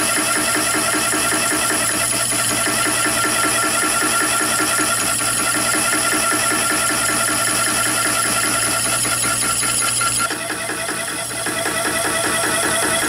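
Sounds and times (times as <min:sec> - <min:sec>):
lathe motor and gear whine: 0:00.0 - 0:13.0.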